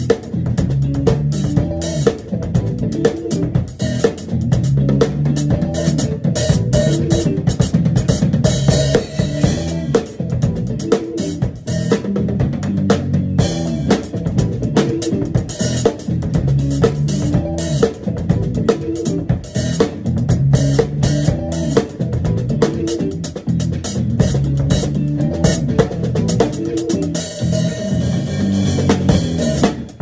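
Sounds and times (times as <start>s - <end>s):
backing track with bass line: 0.0s - 30.0s
drum kit funky groove: 0.0s - 30.0s.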